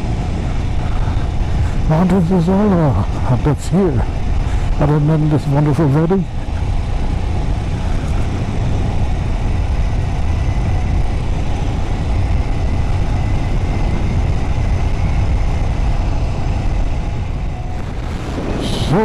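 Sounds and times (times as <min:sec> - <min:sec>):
motorcycle engine drone: 0:00.0 - 0:19.0
wind rumble on microphone: 0:00.0 - 0:19.0.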